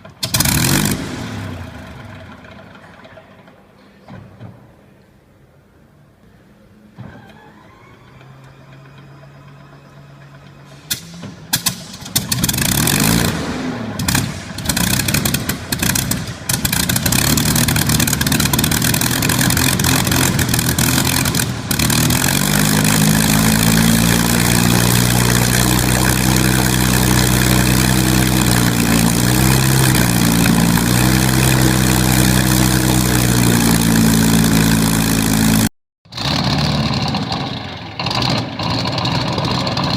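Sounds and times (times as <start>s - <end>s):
aircraft engine bangs and running: 0.0s - 3.2s, 10.7s - 39.9s.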